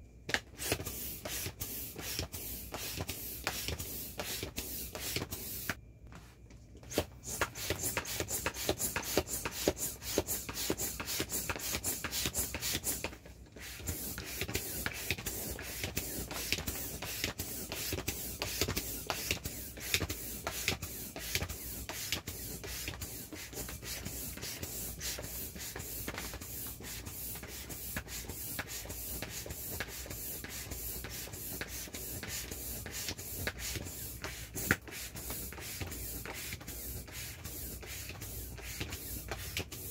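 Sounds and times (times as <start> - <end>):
air pump hissing: 0.4 - 5.8, 6.8 - 39.9.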